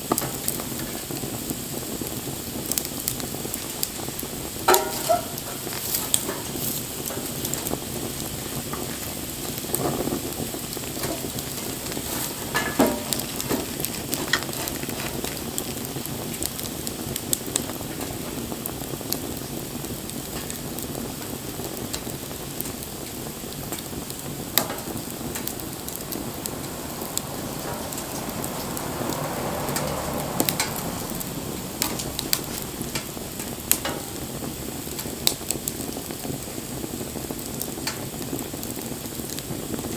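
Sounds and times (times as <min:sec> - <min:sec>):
bonfire crackling: 0:00.0 - 0:39.9
fire pops: 0:00.0 - 0:39.9.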